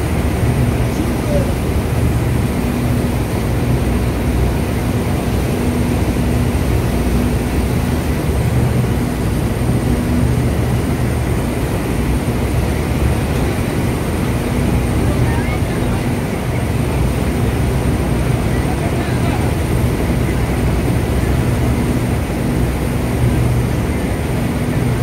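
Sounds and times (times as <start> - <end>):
churning water rushing: 0.0 - 25.0
speed boat engines droning: 0.0 - 25.0.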